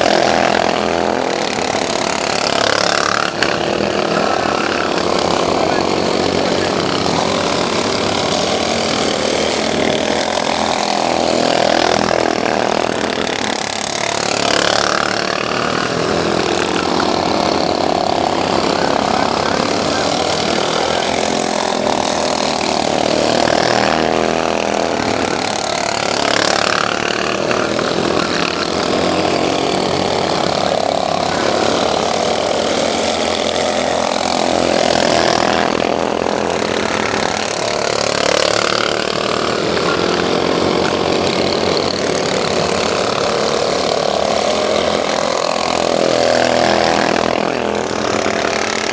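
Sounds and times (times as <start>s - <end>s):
lawn mower engines revving: 0.0s - 48.9s.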